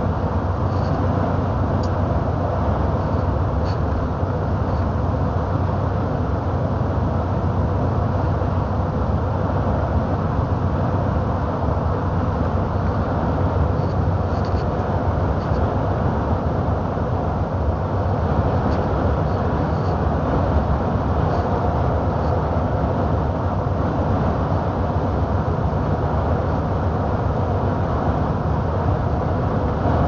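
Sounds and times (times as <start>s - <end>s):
road noise rushing: 0.0s - 30.0s
truck engine droning: 0.0s - 30.0s.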